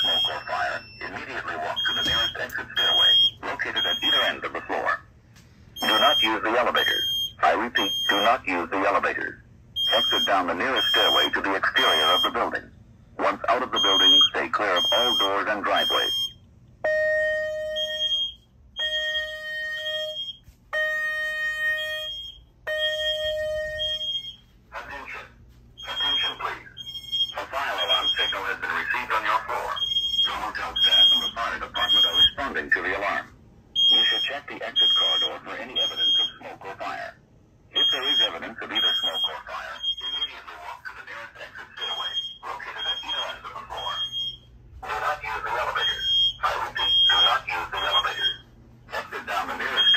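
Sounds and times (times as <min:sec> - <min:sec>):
fire alarm electronic tones: 0:00.0 - 0:04.5, 0:05.7 - 0:08.4, 0:09.7 - 0:12.6, 0:13.6 - 0:25.2, 0:25.8 - 0:32.6, 0:33.8 - 0:36.4, 0:37.8 - 0:40.5, 0:41.7 - 0:48.5, 0:49.3 - 0:49.9
prerecorded voice message: 0:00.0 - 0:05.1, 0:05.8 - 0:16.3, 0:24.6 - 0:49.9.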